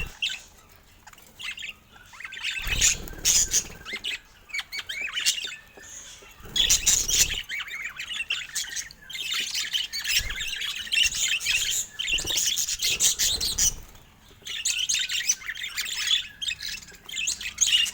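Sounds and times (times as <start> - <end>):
budgerigars chattering: 0.0 - 17.9.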